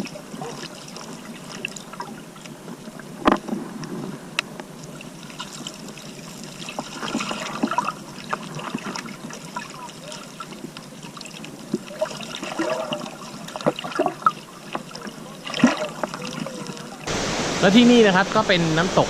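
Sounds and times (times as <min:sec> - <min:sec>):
water splashing and trickling: 0:00.0 - 0:18.2.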